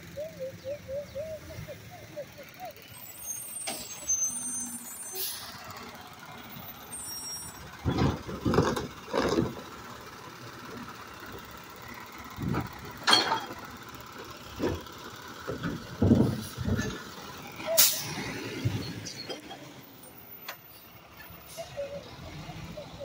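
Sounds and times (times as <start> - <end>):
garbage truck engine running: 0.0 - 23.0.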